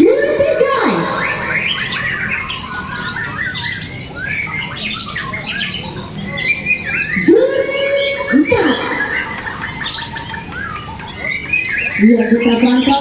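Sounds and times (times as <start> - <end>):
many songbirds singing: 0.0 - 13.0.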